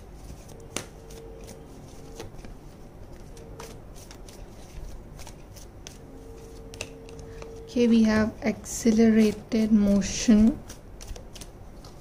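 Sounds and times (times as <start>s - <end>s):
cards being shuffled: 0.2s - 7.6s, 8.9s - 12.0s.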